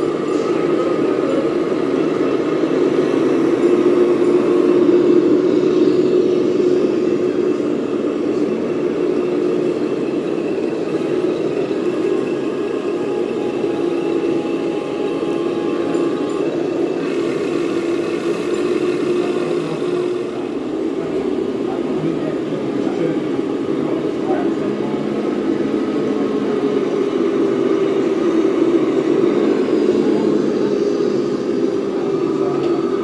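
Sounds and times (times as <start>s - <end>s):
diesel engine drone: 0.0s - 33.0s.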